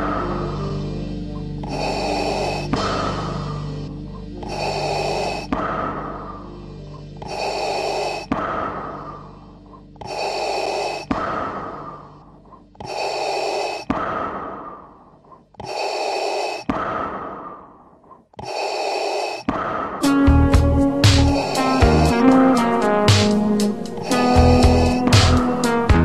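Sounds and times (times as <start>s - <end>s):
mechanical respirator breathing: 0.0s - 26.0s.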